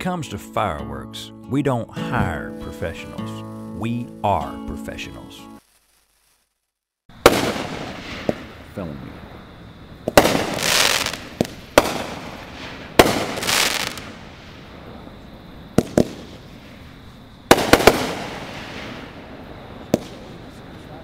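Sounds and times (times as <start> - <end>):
fireworks bangs: 2.1 - 21.0
fireworks hissing crackle: 2.2 - 21.0.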